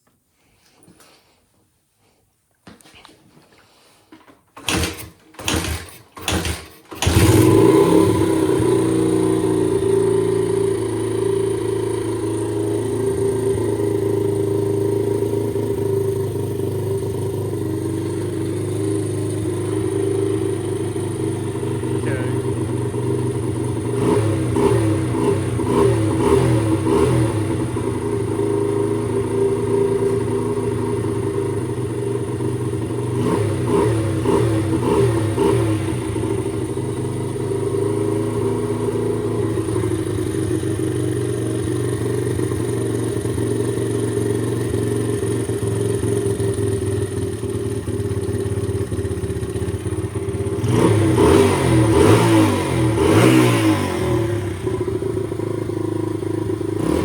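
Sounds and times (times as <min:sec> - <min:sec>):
motorcycle engine revving: 0:04.6 - 0:57.0.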